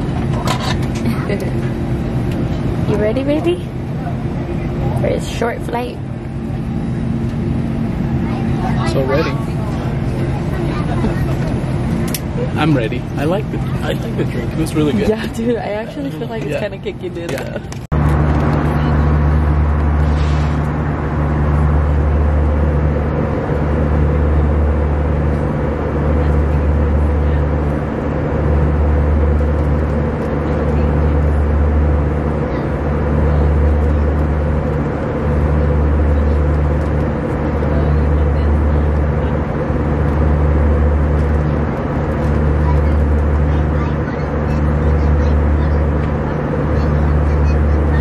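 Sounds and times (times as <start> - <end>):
jet engine drone in cabin: 0.0 - 48.0.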